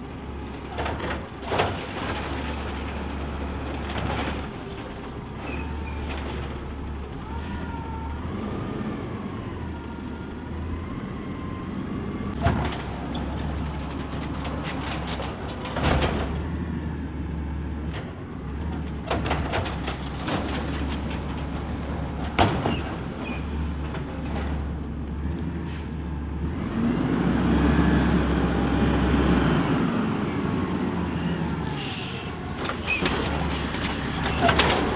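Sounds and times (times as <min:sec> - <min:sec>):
truck engine drone: 0:00.0 - 0:34.9.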